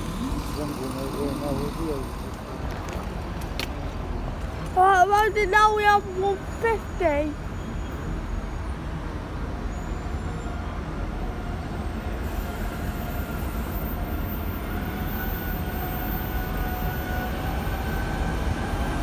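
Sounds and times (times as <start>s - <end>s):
diesel train rumble: 0.0s - 19.0s.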